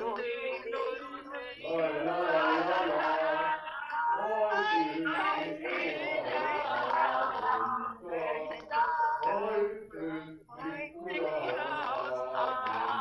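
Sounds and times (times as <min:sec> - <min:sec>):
people singing through a speaker: 0:00.0 - 0:13.0.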